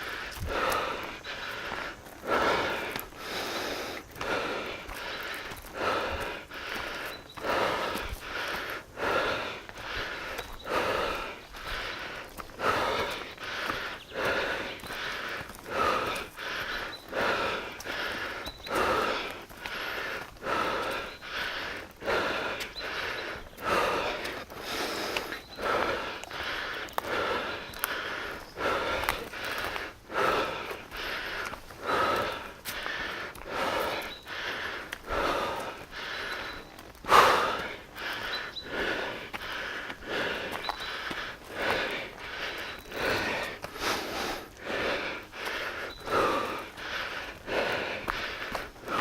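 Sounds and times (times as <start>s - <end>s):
heavy rhythmic breathing: 0.0s - 49.0s.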